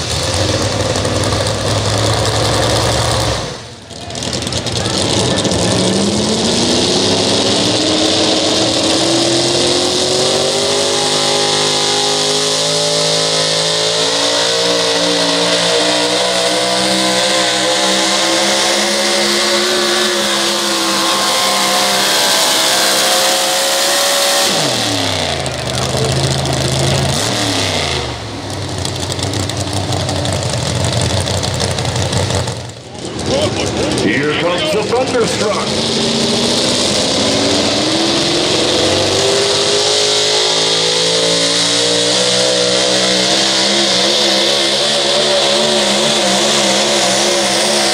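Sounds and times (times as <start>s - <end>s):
truck engine at full power: 0.0s - 47.9s.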